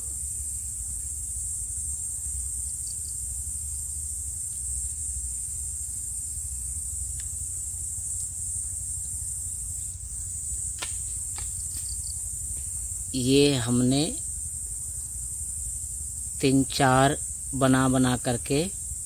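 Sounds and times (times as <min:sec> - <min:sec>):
high-pitched hiss: 0:00.0 - 0:19.0
low background rumble: 0:00.0 - 0:19.0.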